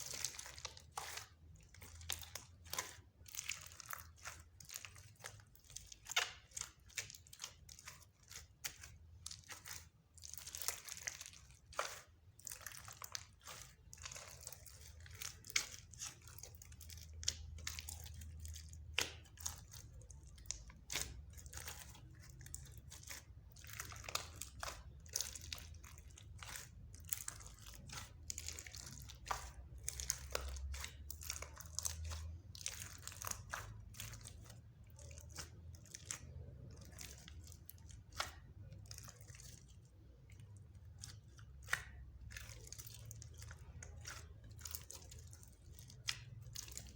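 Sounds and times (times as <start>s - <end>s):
slime squished by hand: 0.0s - 46.9s.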